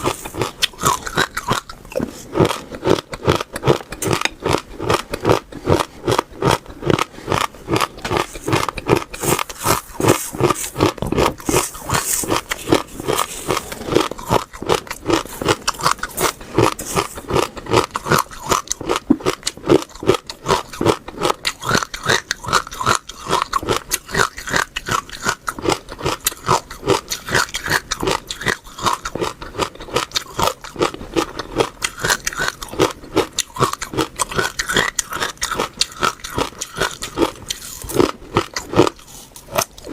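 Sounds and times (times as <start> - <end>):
chewing crisp food: 0.0 - 39.9.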